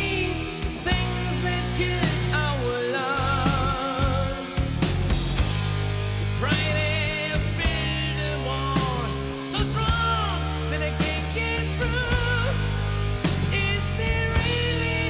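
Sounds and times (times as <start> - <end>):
sustained bass: 0.0 - 15.0.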